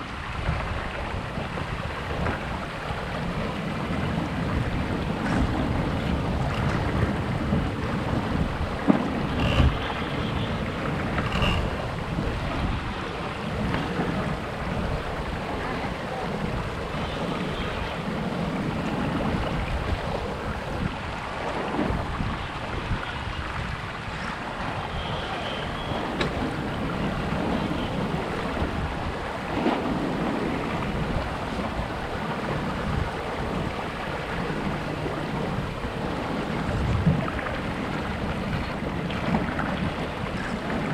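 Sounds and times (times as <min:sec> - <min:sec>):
water rushing past hull: 0:00.0 - 0:40.9
wind buffeting microphone: 0:00.0 - 0:40.9.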